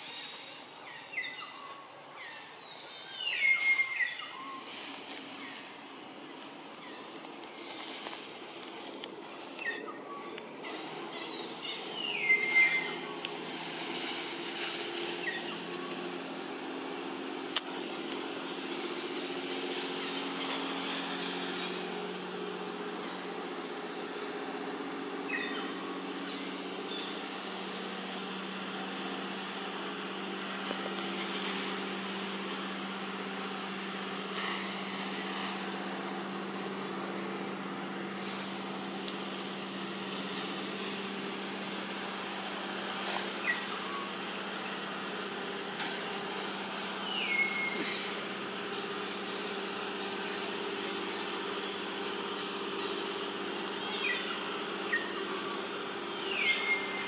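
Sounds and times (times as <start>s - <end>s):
low motor hum: 0.0s - 57.0s.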